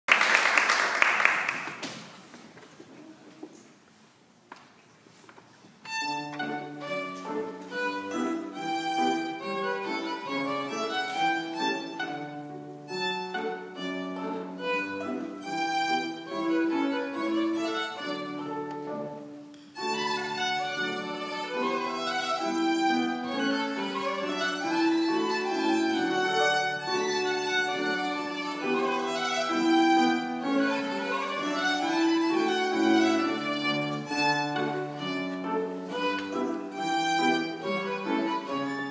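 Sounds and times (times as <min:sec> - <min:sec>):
bowed violin: 0:05.8 - 0:38.9
piano accompaniment: 0:05.9 - 0:38.9.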